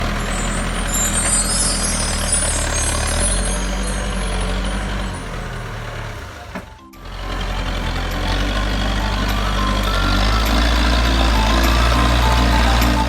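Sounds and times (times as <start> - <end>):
diesel engine running: 0.0 - 13.0
high-pitched squeal: 0.0 - 13.0.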